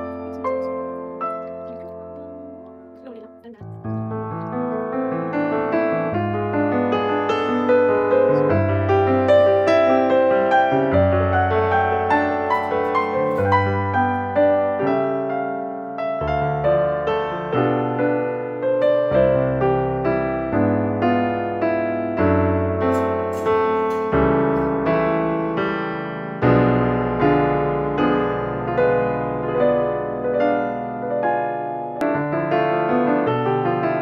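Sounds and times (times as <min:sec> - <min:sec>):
gentle electric piano piece: 0:00.0 - 0:34.0.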